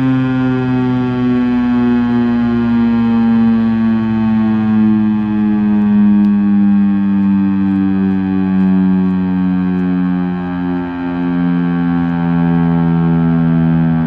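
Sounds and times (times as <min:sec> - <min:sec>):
siren tone falling in pitch: 0:00.0 - 0:14.0.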